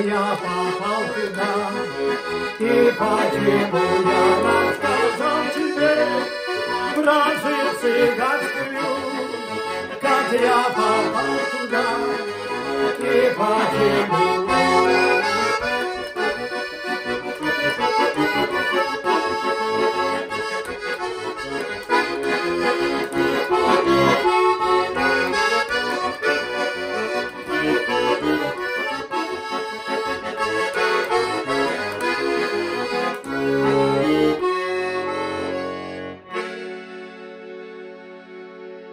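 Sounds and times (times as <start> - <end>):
button accordion playing: 0.0 - 38.9.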